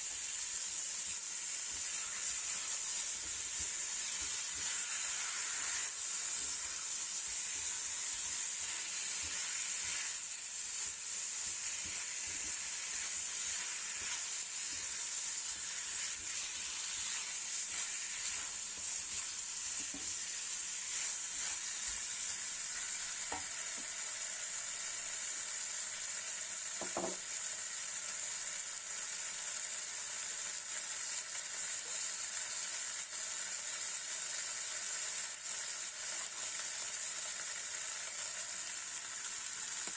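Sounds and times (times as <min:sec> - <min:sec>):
chicken wings sizzling in a pan: 0:00.0 - 0:39.9.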